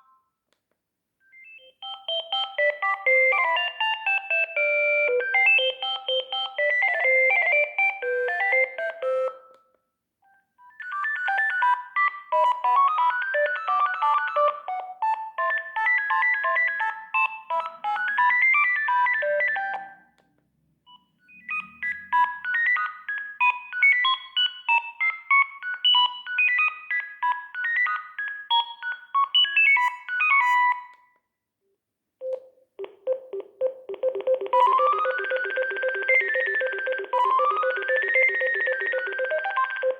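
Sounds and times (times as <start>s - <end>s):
mobile phone ringtone melodies: 1.3s - 9.5s, 10.8s - 20.1s, 21.0s - 30.9s, 32.8s - 39.9s.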